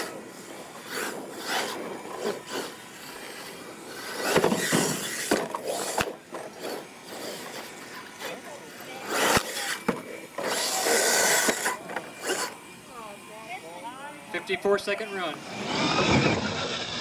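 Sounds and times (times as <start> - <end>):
toy truck tyres scraping dirt: 0.0 - 12.6, 15.4 - 17.0.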